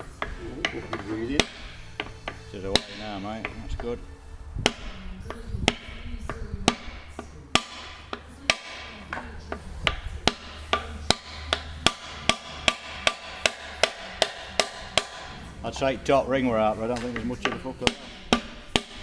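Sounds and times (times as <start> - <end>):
hammer knocking on wooden block: 0.0 - 19.0.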